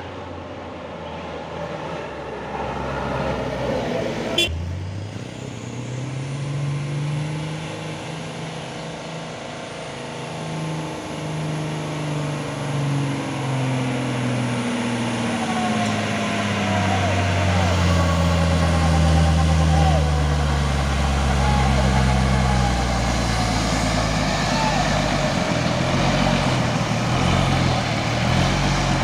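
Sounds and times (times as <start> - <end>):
truck diesel engine straining uphill: 0.0 - 29.0.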